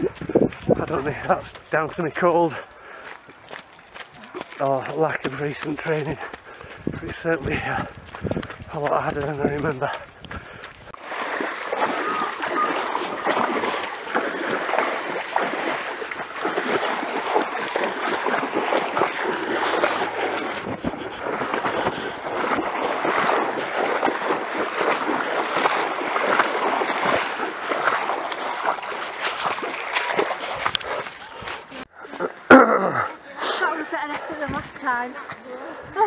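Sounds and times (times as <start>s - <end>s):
legs splashing through muddy water: 0.0s - 36.0s.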